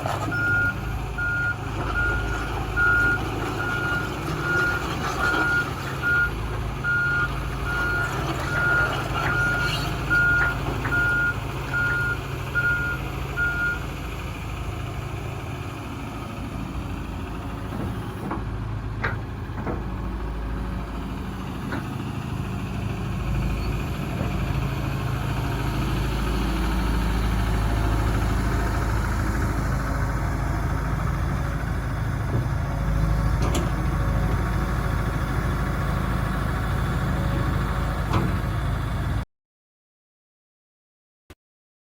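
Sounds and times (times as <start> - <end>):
excavator diesel engine running: 0.0 - 39.2.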